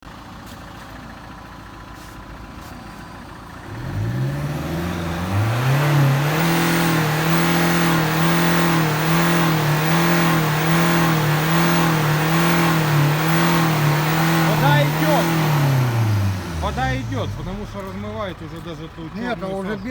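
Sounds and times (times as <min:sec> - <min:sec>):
car engine revving: 0:03.6 - 0:19.9.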